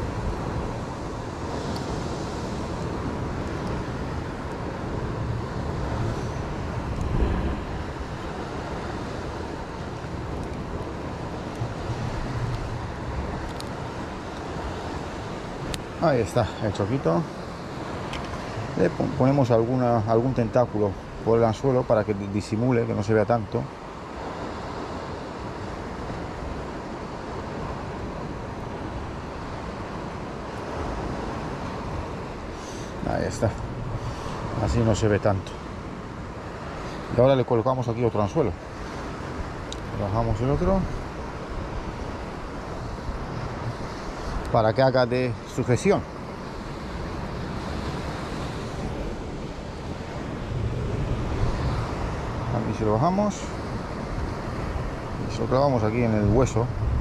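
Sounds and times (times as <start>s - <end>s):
sea rushing: 0.0s - 57.0s
wind rumble on microphone: 0.0s - 57.0s.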